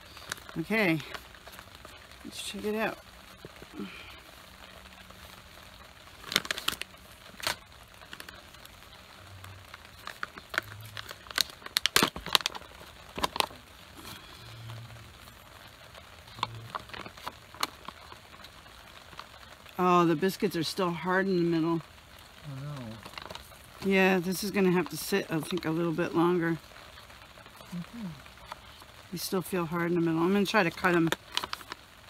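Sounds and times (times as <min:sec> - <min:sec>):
foil pouch crinkling: 0:00.0 - 0:32.0.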